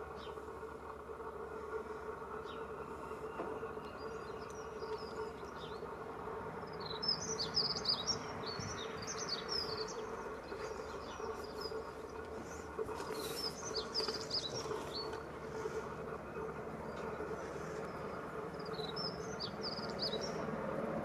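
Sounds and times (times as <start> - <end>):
distant helicopter drone: 0.0 - 21.0
songbird chirping: 2.4 - 20.6.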